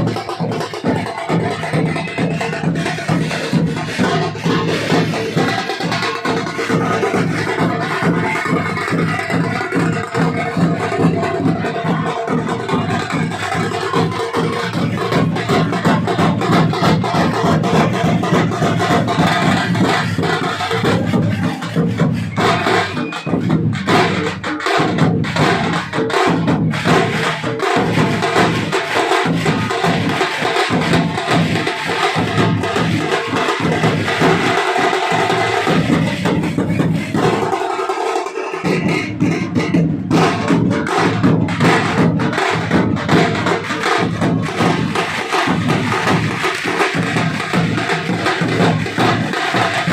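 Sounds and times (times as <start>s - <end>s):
drums beaten with sticks: 0.0s - 49.9s.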